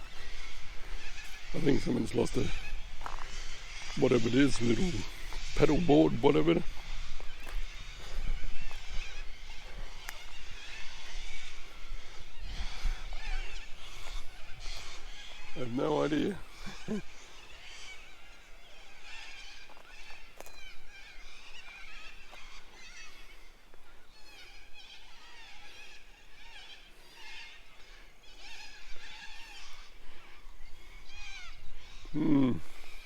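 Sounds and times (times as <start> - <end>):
chorus of birds chirping: 0.0 - 33.0.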